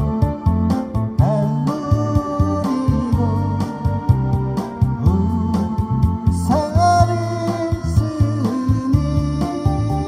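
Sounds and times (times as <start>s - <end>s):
bass line with beat: 0.0s - 10.0s
keyboard chords: 0.0s - 10.0s
person singing: 1.2s - 10.0s.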